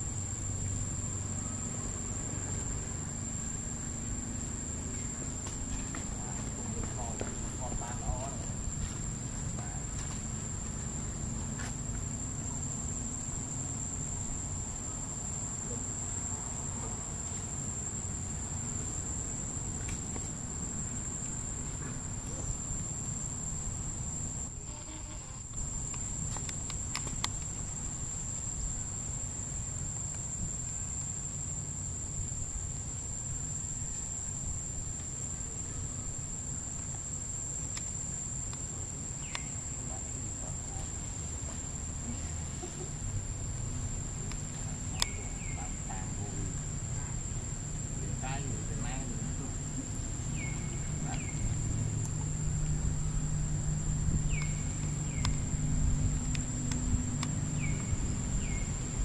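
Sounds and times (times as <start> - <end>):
insects droning: 0.0 - 59.0
low background rumble: 0.0 - 59.0.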